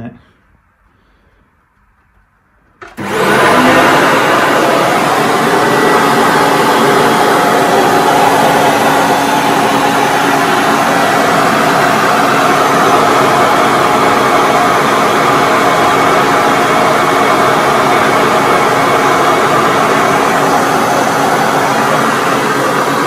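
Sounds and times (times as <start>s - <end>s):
vacuum cleaner running: 2.8s - 23.0s.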